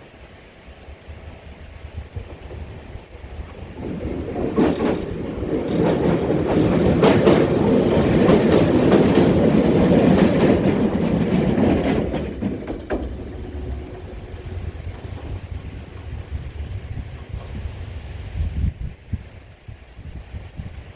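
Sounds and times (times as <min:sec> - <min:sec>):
electric train passing: 0:00.0 - 0:19.6
wheels clacking over rail joints: 0:01.1 - 0:18.4.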